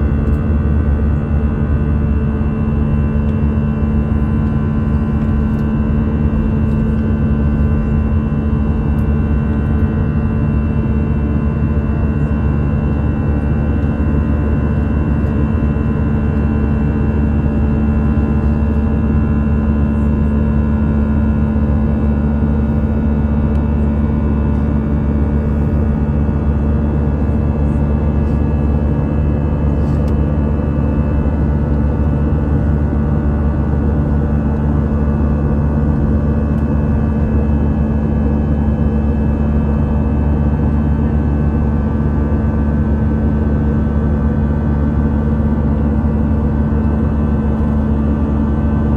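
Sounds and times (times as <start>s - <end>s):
jet engines droning in flight: 0.0s - 48.9s.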